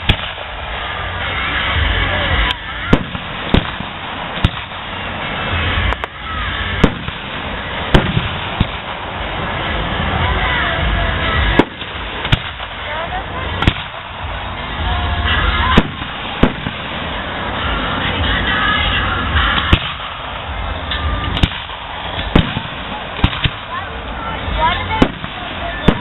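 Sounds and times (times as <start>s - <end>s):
firework bangs: 0.0s - 26.0s
firework rumble and crackle: 0.0s - 26.0s.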